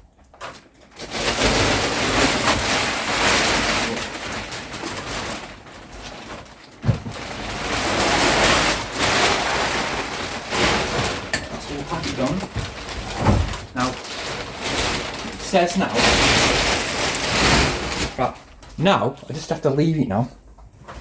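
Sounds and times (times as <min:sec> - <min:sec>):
plastic wrapping crinkling: 0:00.0 - 0:20.2.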